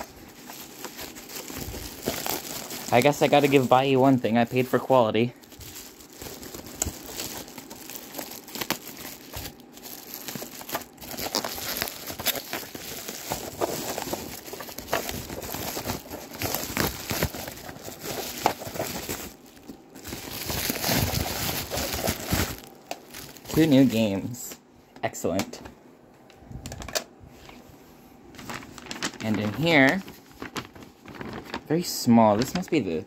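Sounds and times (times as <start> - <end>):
bubble wrap crackling: 0.0 - 24.4, 28.4 - 33.0.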